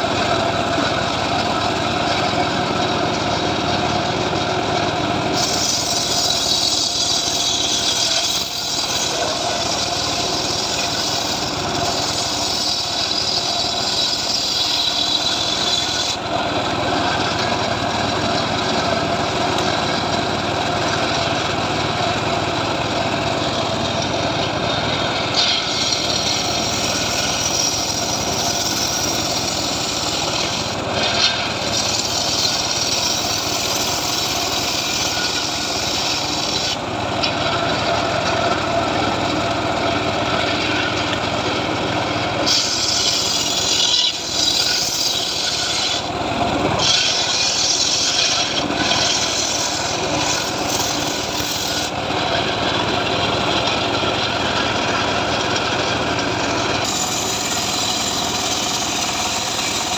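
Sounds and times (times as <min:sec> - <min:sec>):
sawmill cutting log: 0:00.0 - 0:59.9
sawmill engine running: 0:00.0 - 0:59.9.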